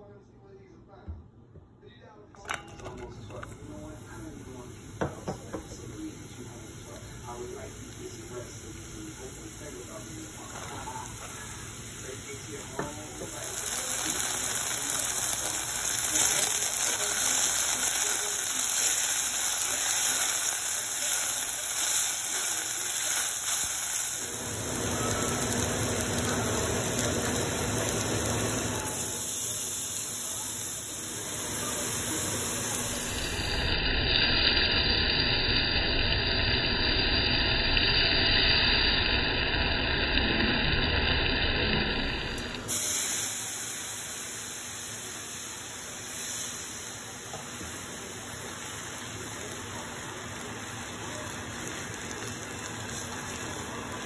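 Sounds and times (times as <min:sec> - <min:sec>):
food sizzling in hot oil: 0:03.6 - 0:54.0.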